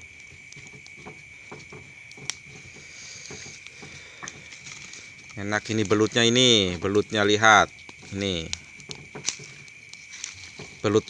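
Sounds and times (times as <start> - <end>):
fire crackling: 0.0 - 11.0.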